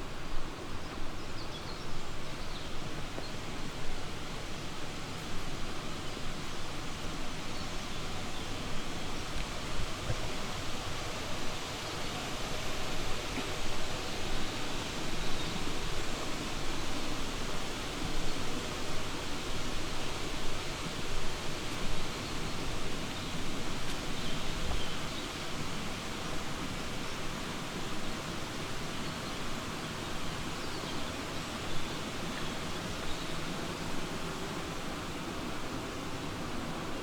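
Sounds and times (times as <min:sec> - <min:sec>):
stream rushing: 0:02.0 - 0:37.0.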